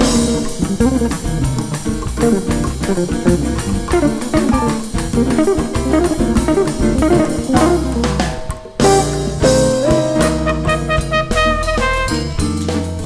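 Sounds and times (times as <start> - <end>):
bass: 0.0 - 13.0
drum kit: 0.0 - 13.0
jazz guitar lines: 0.0 - 13.0.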